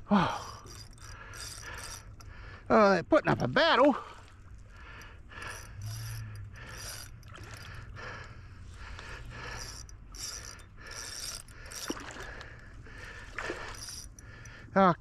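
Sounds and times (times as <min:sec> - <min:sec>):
fishing reel whirring: 0:00.1 - 0:02.7, 0:04.5 - 0:14.7.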